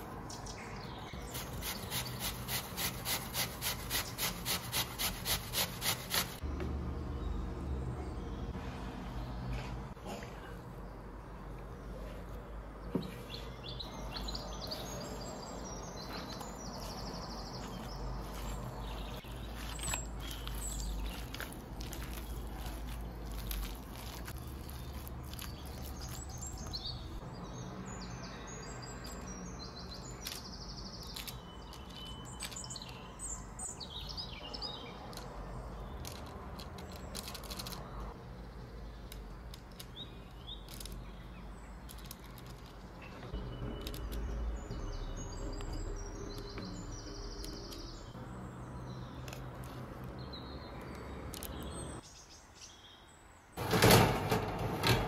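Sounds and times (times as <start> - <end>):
small birds chirping: 0.0 - 53.6.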